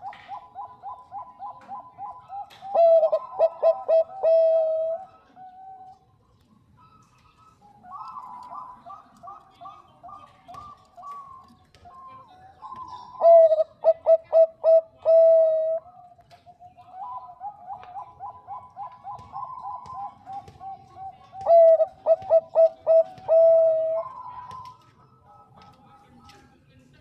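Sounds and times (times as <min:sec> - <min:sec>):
dove cooing: 0:00.0 - 0:06.0, 0:06.8 - 0:16.0, 0:16.6 - 0:25.9.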